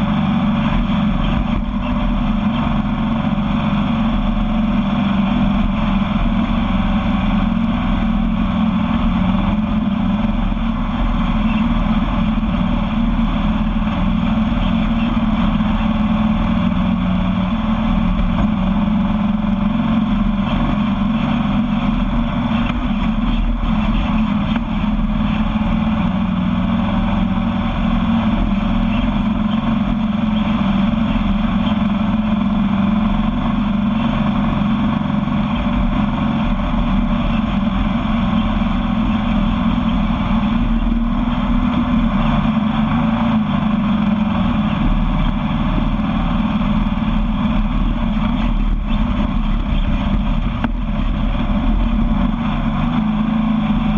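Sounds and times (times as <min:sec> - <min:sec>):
engine running steadily: 0:00.0 - 0:53.9
rush of noise: 0:00.0 - 0:53.9.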